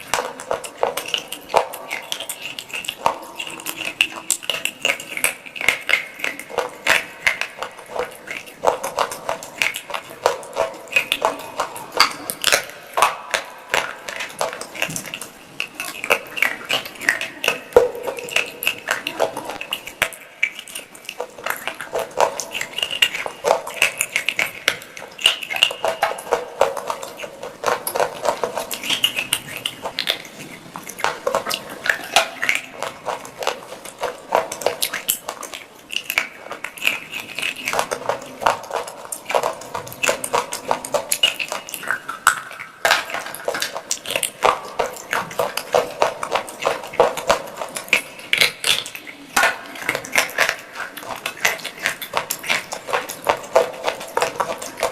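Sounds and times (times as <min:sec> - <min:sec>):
crunching and chewing: 0:00.0 - 0:54.9.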